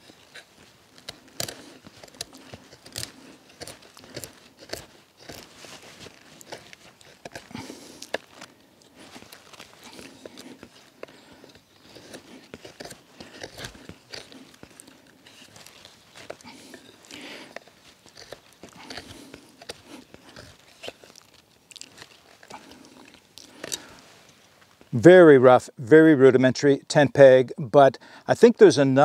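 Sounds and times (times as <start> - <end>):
knife carving wood: 0.0 - 24.9.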